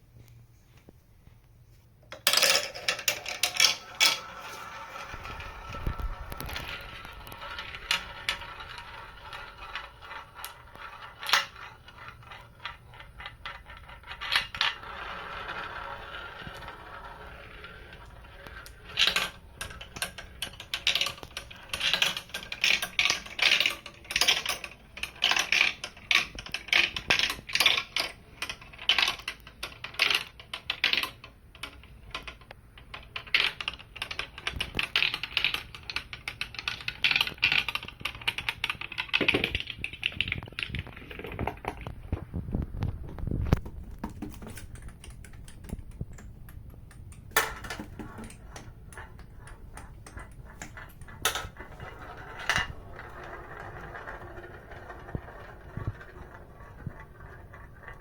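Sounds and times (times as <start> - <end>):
glass marbles rolling on track: 2.1 - 44.0, 46.9 - 58.0
marbles clattering and bouncing: 2.1 - 58.0.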